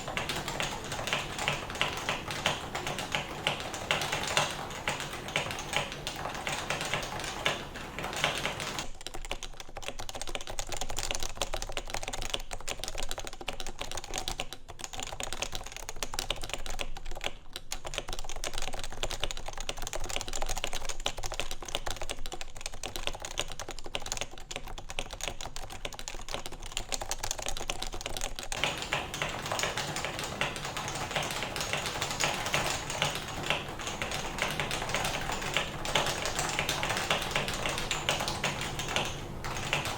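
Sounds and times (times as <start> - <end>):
fast typing on a keyboard: 0.0 - 39.9.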